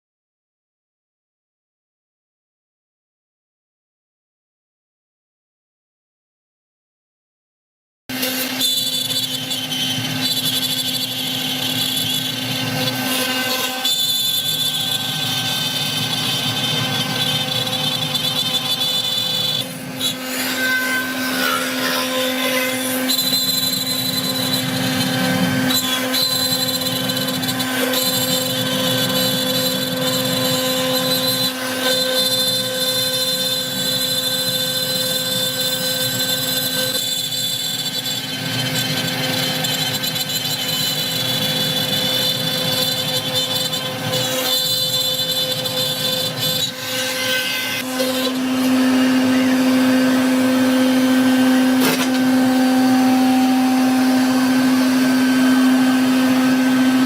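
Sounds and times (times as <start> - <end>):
wood router humming and whining: 8.1 - 57.0.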